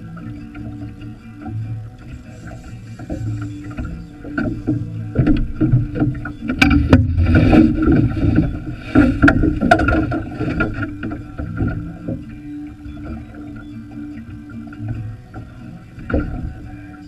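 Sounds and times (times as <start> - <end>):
knocks and clatter on boat: 0.0 - 17.0
steady hum: 0.0 - 17.0.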